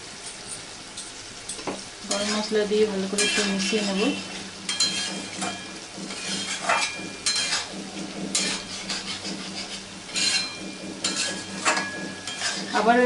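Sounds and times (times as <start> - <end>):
curry sizzling: 0.0 - 13.0
metal spatula scraping pan: 1.5 - 13.0.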